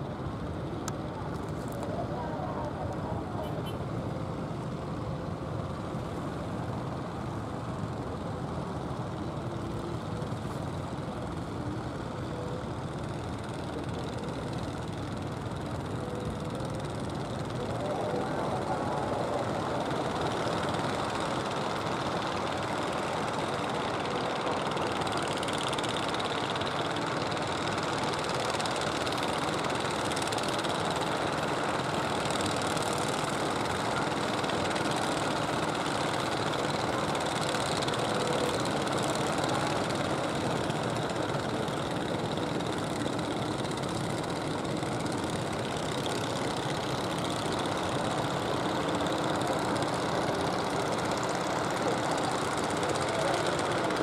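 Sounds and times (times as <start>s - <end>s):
boat engines running: 0.0s - 54.0s.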